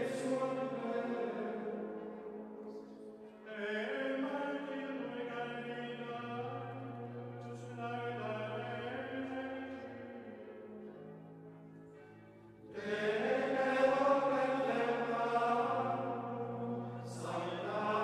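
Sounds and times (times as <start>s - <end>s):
male choir chanting: 0.0s - 2.7s, 3.4s - 10.4s, 12.7s - 18.0s.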